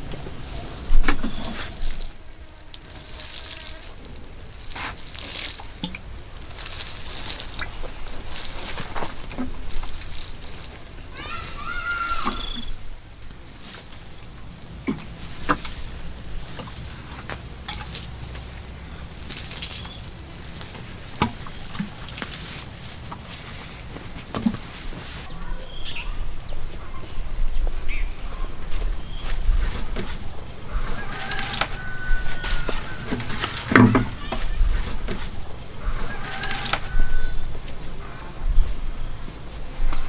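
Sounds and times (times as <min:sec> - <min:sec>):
insects chirping: 0:00.0 - 0:40.0.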